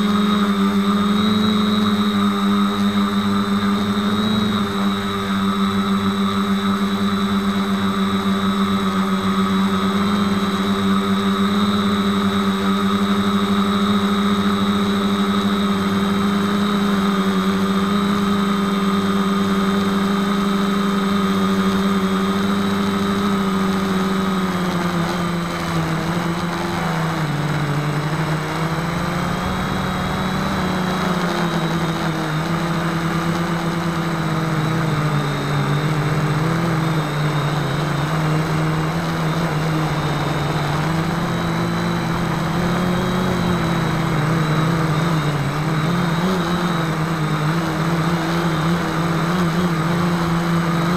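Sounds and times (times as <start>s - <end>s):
quadcopter motors droning: 0.0s - 50.9s.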